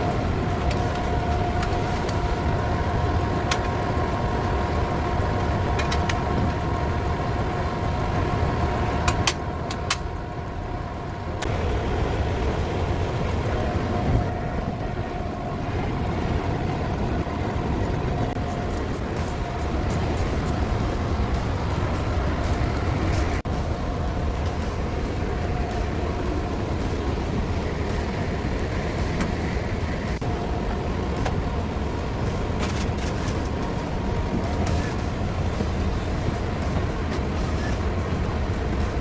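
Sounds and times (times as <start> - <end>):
ventilation fan running: 0.0 - 39.0.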